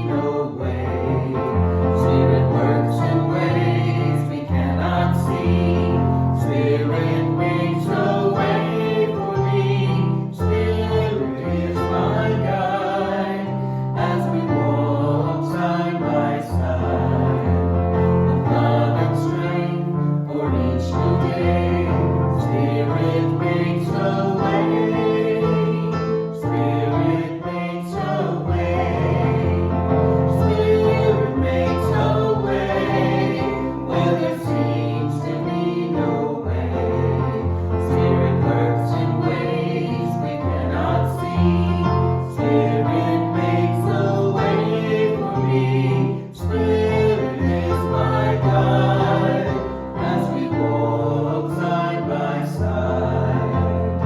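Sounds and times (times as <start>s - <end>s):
group singing together: 0.0s - 54.0s
instrumental backing with bass: 0.0s - 54.0s.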